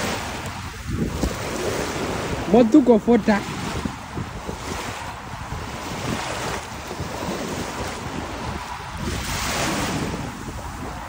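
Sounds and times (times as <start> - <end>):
small waves washing ashore: 0.0 - 11.0
wind rumbling on microphone: 0.0 - 11.0.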